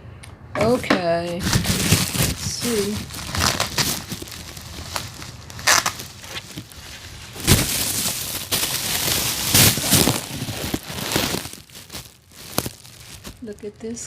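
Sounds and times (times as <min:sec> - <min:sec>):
packaging crinkling and rustling: 0:00.6 - 0:14.0.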